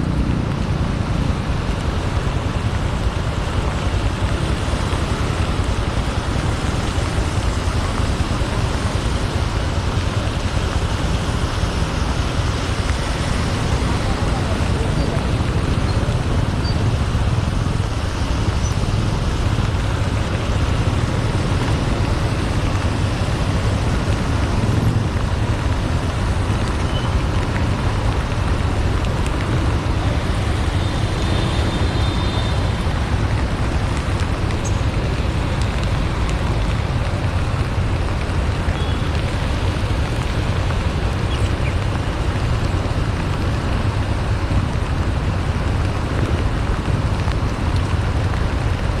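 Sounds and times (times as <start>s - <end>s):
road and wind noise: 0.0s - 49.0s.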